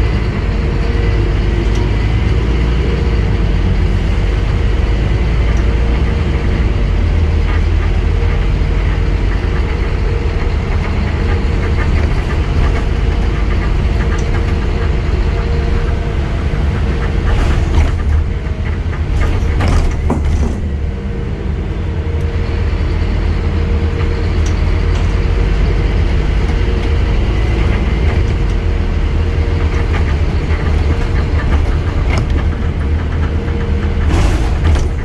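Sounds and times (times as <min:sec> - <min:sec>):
bus diesel engine running: 0:00.0 - 0:35.0
engine whine: 0:00.0 - 0:35.0.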